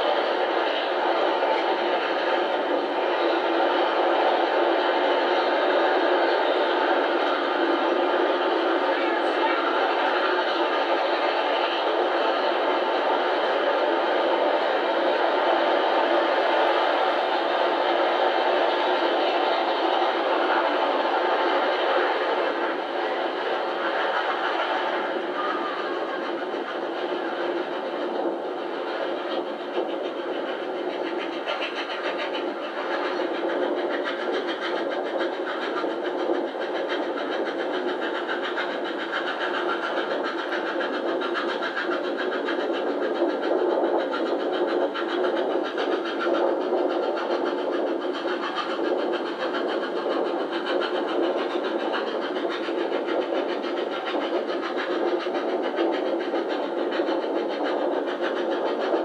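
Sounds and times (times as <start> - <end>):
steam locomotive running: 0.0 - 59.0.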